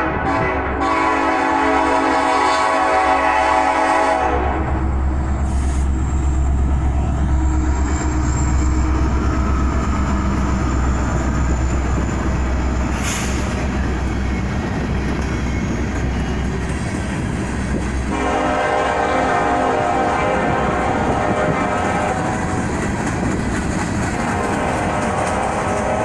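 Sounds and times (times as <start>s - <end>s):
train cars running on rails: 0.0s - 26.0s
train rumbling past: 0.0s - 26.0s.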